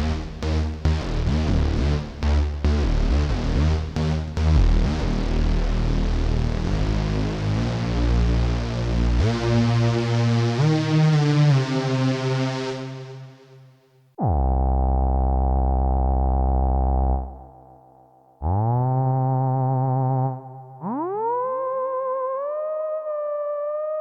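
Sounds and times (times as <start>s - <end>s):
synthesizer lead notes: 0.0s - 24.0s.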